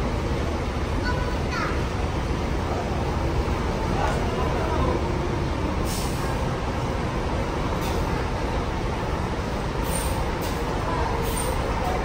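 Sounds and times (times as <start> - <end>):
diesel bus engine rumbling: 0.0 - 12.0.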